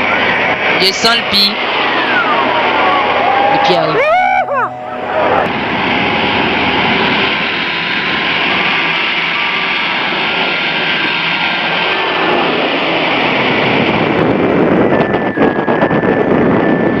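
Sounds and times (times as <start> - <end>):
airplane engine noise: 0.0 - 17.0.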